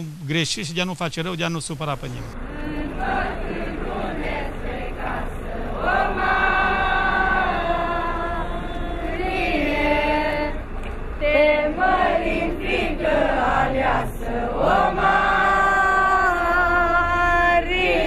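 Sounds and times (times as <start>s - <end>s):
crowd singing a hymn: 2.4s - 18.0s.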